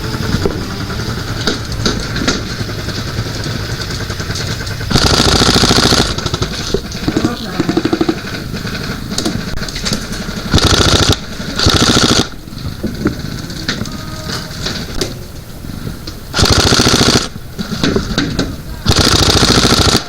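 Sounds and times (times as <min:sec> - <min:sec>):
airsoft gun full-auto fire: 0:00.0 - 0:20.0.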